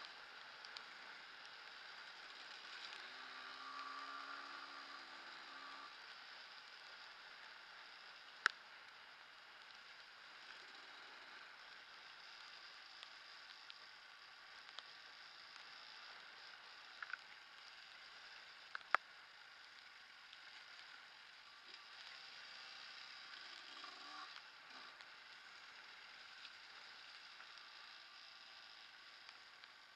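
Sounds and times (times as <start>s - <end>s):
small clicks: 0.0s - 6.0s, 7.8s - 9.0s, 11.6s - 29.9s
muffled dirt bike engine: 0.0s - 29.9s.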